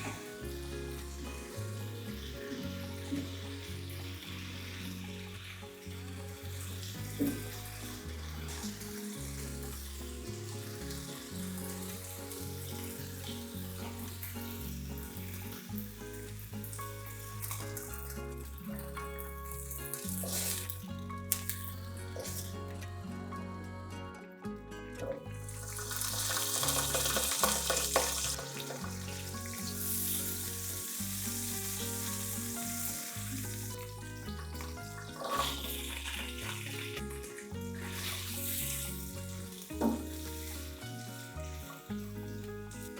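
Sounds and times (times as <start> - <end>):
food frying in hot oil: 0.0 - 22.6, 25.5 - 42.9.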